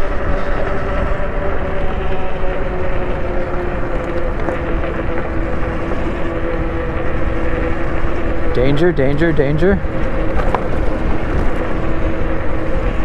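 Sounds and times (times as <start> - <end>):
electric bike motor whining: 0.0 - 13.0
wind rumble on microphone: 0.0 - 13.0.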